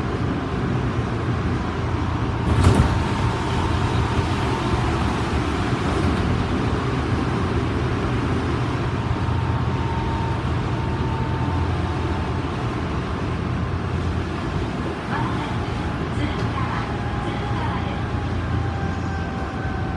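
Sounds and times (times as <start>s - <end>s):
train wheels rumbling: 0.0s - 19.9s.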